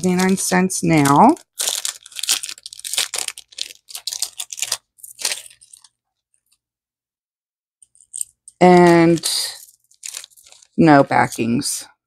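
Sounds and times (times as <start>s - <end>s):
plastic bag crinkling: 0.0s - 6.0s, 7.9s - 11.7s.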